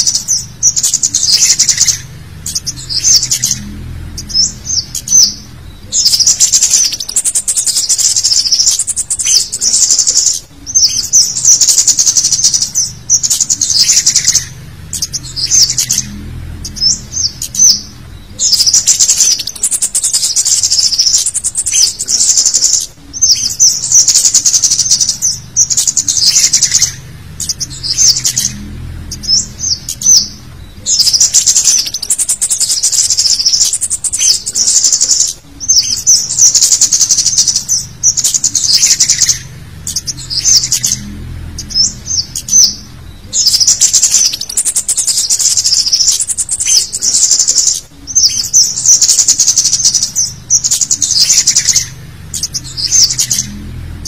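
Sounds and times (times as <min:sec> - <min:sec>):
high-pitched bird chirping: 0:00.0 - 0:54.0.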